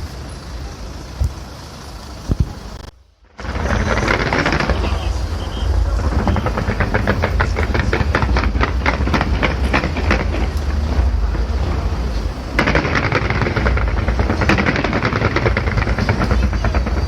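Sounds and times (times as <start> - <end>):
fireworks crackling bangs: 0.0 - 17.0
deep low rumble: 2.2 - 17.0.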